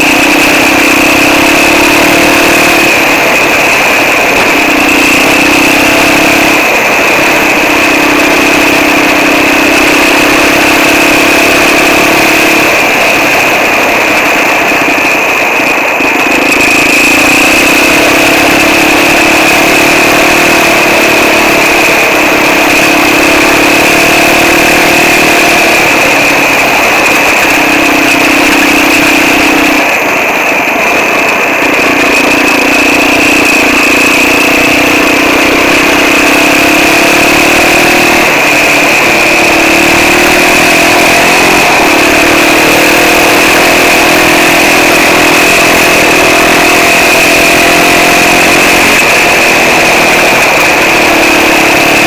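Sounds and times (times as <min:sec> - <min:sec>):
quad bike engine revving: 0:00.0 - 0:52.0
steady high whine: 0:00.0 - 0:52.0.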